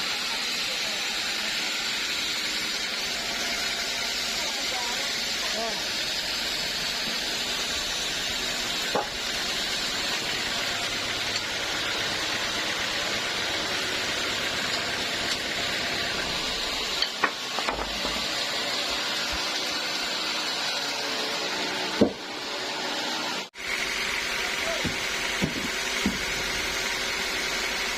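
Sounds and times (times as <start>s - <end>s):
sawmill machinery hissing: 0.0s - 27.9s.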